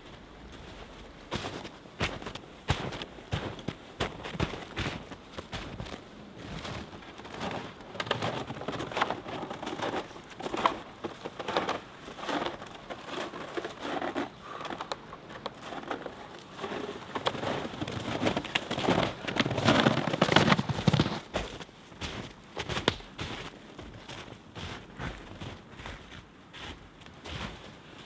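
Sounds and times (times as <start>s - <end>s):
footsteps crunching in snow: 0.0s - 14.8s, 15.6s - 28.0s.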